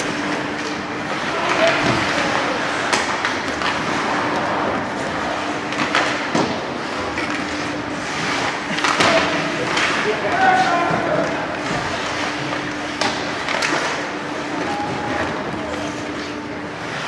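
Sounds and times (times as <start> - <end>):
sticks and puck clacking: 0.0 - 17.0
skates scraping on ice: 0.1 - 17.0.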